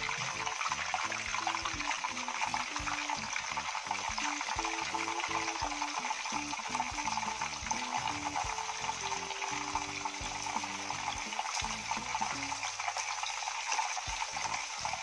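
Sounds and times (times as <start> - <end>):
food sizzling in hot oil: 0.0 - 15.0
simple background tune: 0.0 - 15.0.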